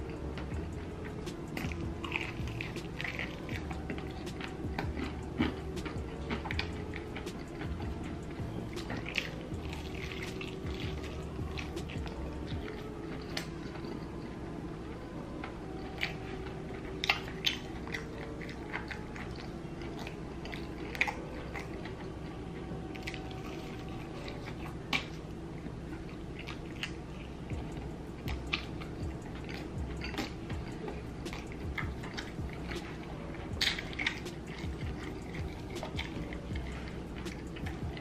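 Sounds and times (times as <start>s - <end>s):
person chewing crunchy food: 0.0s - 38.0s.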